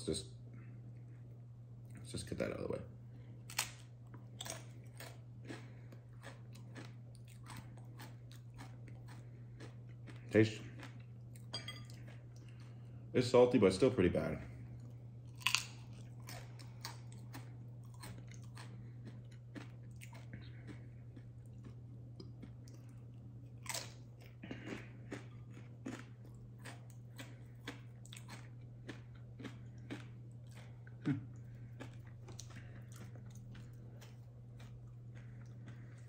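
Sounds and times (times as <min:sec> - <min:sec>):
steady low hum: 0:00.0 - 0:36.0
person chewing crunchy chip: 0:03.4 - 0:12.8, 0:14.8 - 0:36.0.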